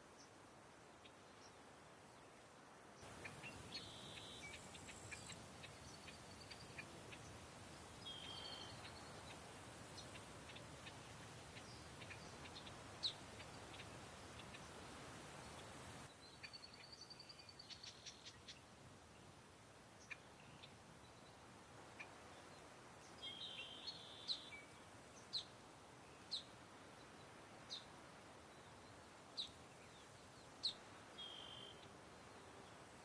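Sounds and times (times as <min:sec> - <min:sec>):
steady low hiss: 0:00.0 - 0:33.0
small birds chirping: 0:03.0 - 0:33.0.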